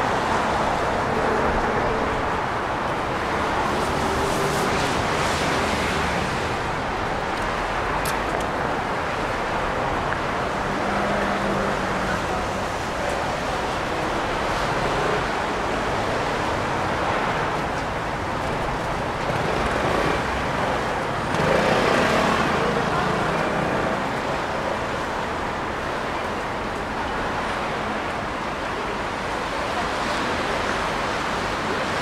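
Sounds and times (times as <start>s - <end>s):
traffic on a wet road: 0.0s - 32.0s.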